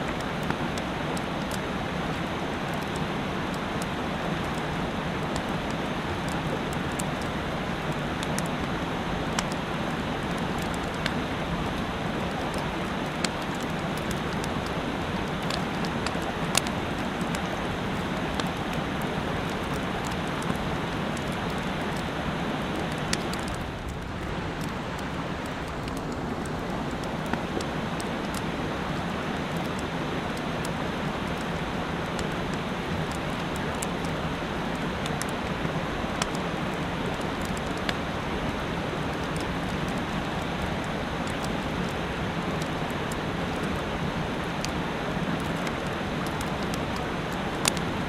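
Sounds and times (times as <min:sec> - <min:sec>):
mountain stream rushing: 0:00.0 - 0:48.0.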